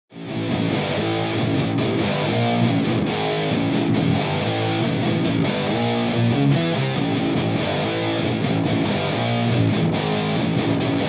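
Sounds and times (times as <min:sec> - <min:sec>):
strummed guitar music with beat: 0:00.1 - 0:11.0.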